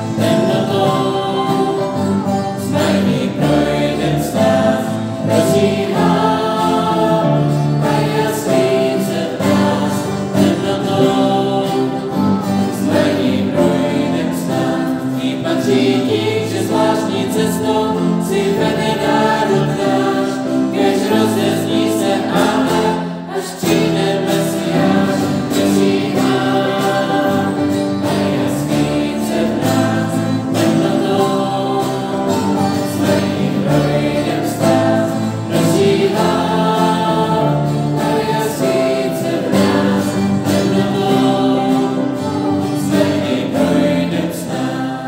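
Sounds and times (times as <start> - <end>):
choir singing a hymn: 0.0 - 45.0.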